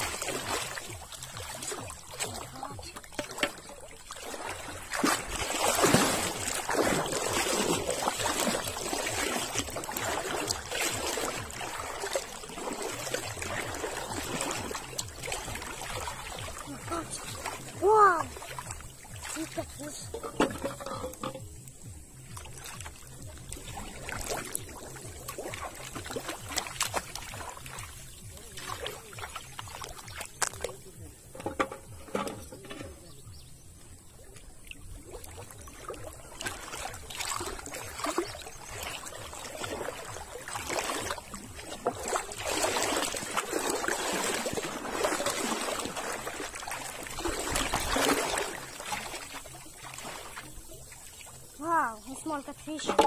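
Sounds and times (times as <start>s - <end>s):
pond water lapping and sloshing: 0.0s - 53.0s
water splashing and dripping: 0.0s - 53.0s.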